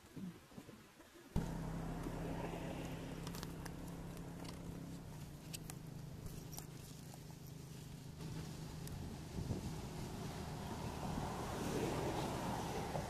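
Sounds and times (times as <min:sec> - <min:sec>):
faint outdoor ambience: 0:00.0 - 0:13.0
low engine drone: 0:01.4 - 0:13.0.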